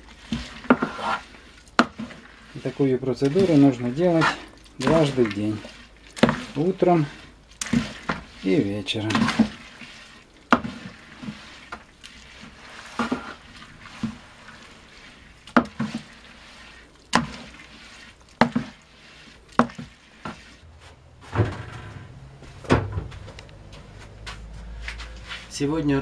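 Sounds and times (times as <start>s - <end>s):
grape mash squelching and sloshing: 0.0s - 26.0s.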